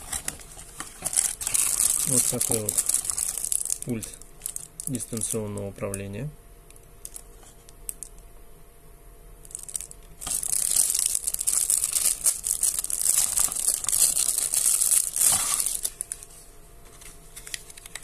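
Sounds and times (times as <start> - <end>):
plastic wrapper crinkling: 0.0 - 5.6, 6.7 - 8.1, 9.5 - 18.0.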